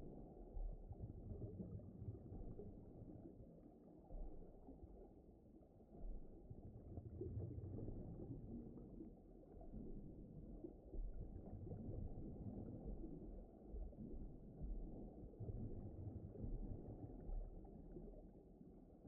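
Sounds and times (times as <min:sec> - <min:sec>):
muffled underwater water wash: 0:00.0 - 0:19.0.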